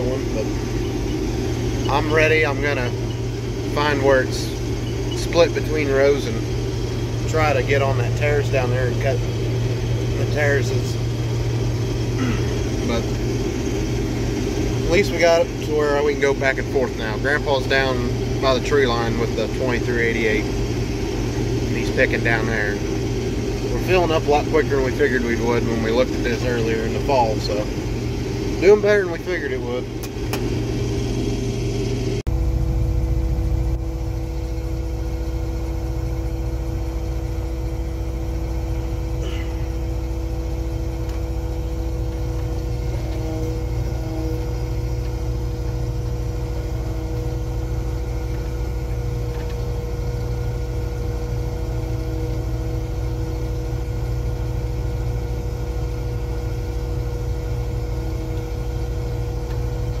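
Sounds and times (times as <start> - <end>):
combine engine and machinery drone: 0.0 - 60.0.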